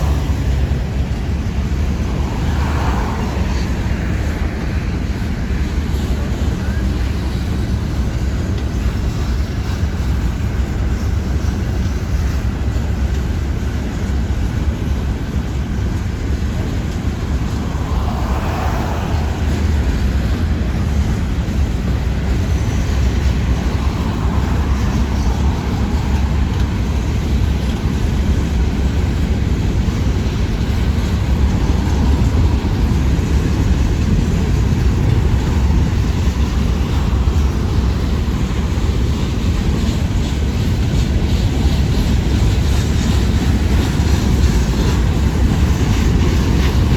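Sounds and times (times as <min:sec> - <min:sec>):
freight train rumbling past: 0:00.0 - 0:46.9.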